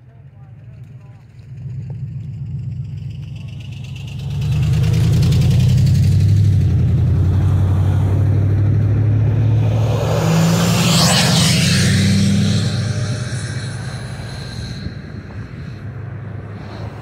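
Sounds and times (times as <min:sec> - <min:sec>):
large engine deep hum: 0:00.0 - 0:17.0.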